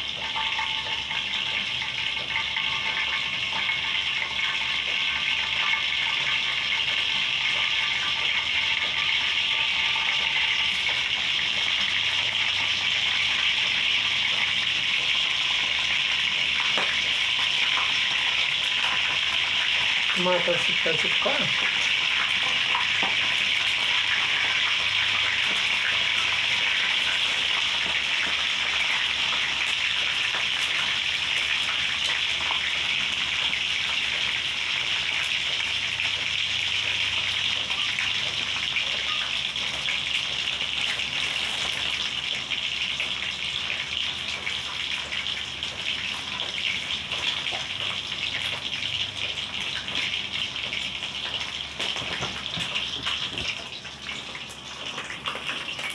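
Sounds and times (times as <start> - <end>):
fish sizzling in hot oil: 0.0 - 55.9.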